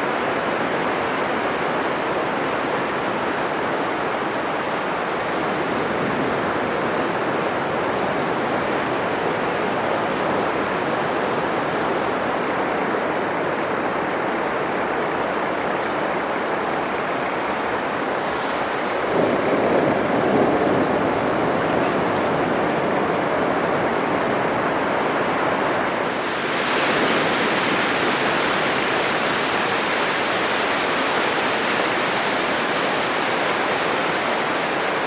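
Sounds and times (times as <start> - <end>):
surf breaking on a beach: 1.4 - 35.0.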